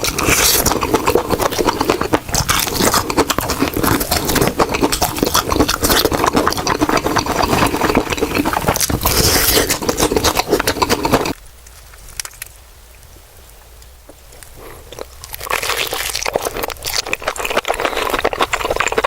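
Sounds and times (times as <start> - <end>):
crunching fried chicken: 0.0 - 11.4, 14.6 - 19.0.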